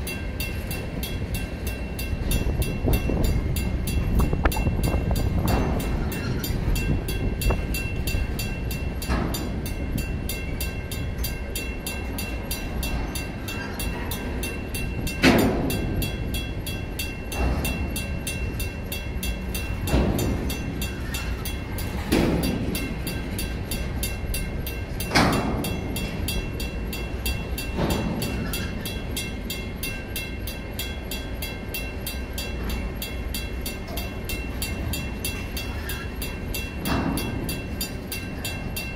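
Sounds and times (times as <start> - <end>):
crossing signal bell ringing: 0.0 - 38.9
train wheels rumbling on rail: 0.0 - 38.9
wheels clunking over crossing: 2.2 - 31.6, 32.4 - 38.9.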